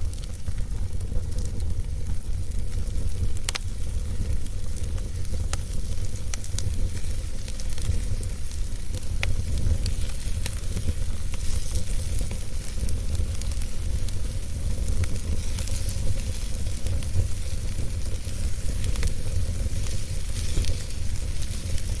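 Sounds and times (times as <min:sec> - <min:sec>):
fire flames rumbling: 0:00.0 - 0:22.0
logs crackling and popping: 0:00.0 - 0:22.0.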